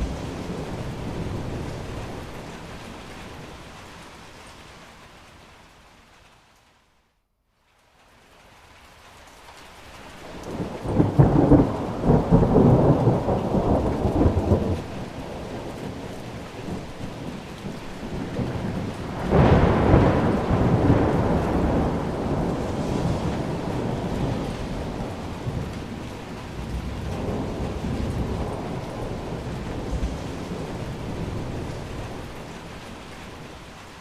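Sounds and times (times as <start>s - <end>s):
thunder rumbling: 0.0s - 3.9s, 10.2s - 34.0s
steady rain: 0.0s - 34.0s.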